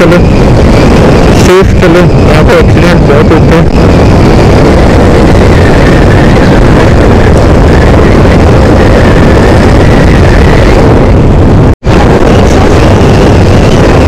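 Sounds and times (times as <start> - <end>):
motorcycle engine drone: 0.0 - 14.0
wind rushing over microphone: 0.0 - 14.0.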